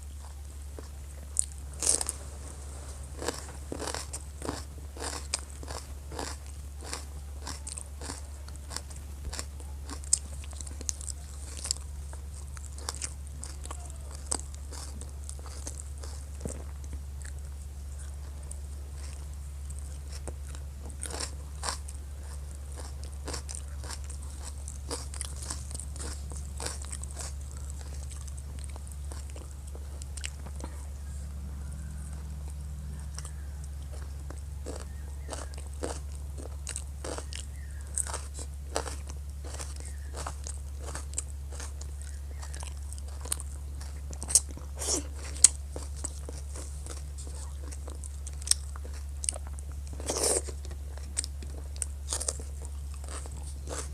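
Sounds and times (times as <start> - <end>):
chewing and mouth sounds: 0.0 - 53.9
steady low hum: 0.0 - 53.9.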